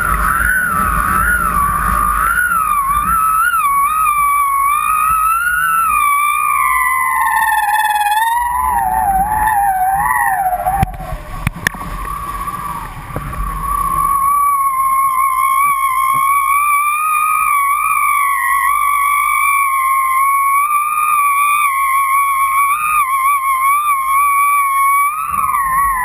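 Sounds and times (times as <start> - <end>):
rush of wind and water: 0.0 - 26.0
whistle-like tone of wind on lines: 0.0 - 26.0.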